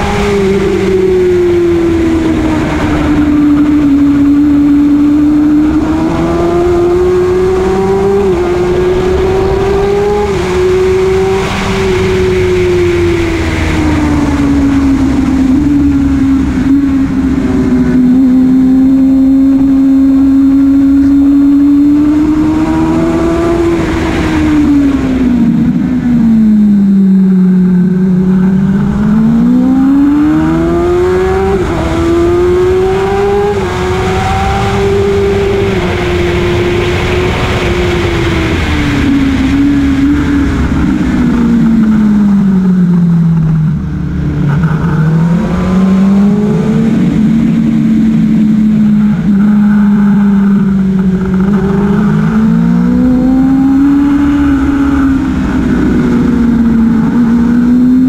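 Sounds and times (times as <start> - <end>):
motorcycle engine running hard: 0.0 - 58.0
wind noise over camera: 0.0 - 58.0.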